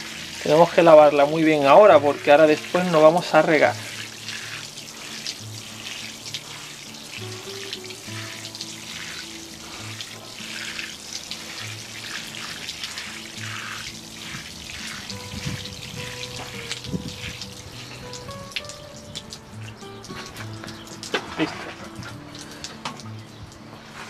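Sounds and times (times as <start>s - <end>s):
background music: 0.0s - 24.0s
water spraying from watering can: 0.0s - 24.0s.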